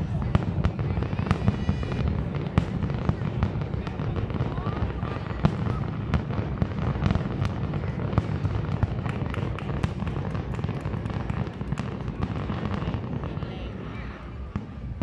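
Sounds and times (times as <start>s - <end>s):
fireworks booming: 0.0s - 15.0s
fireworks cracking and crackling: 0.0s - 15.0s.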